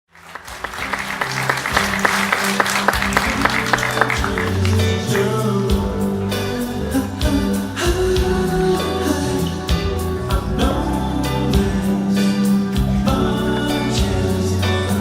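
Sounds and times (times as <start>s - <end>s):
held bass notes: 0.2s - 15.0s
music with steady beat: 0.2s - 15.0s.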